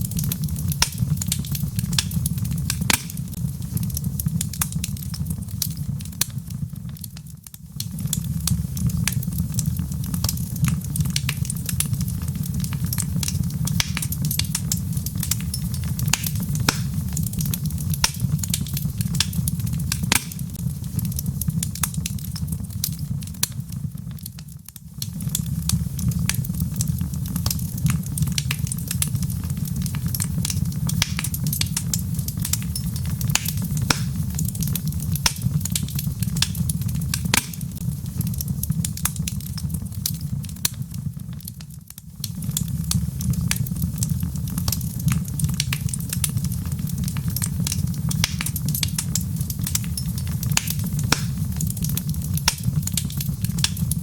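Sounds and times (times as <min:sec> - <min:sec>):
logs crackling and popping: 0:00.0 - 0:54.0
low rumble of flame: 0:00.0 - 0:54.0.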